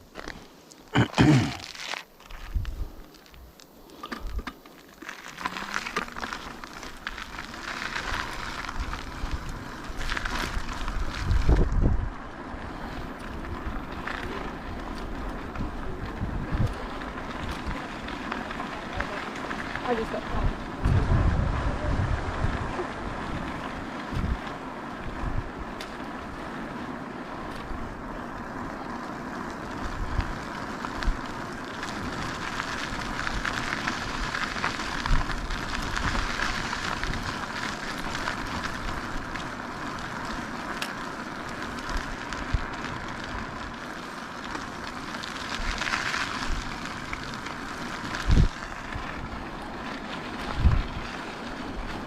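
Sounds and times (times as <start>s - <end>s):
e-bike rolling: 0.0s - 52.0s
wind noise on microphone: 2.3s - 3.5s, 5.7s - 28.1s, 29.6s - 40.5s, 41.5s - 43.7s, 44.8s - 49.7s, 50.3s - 52.0s.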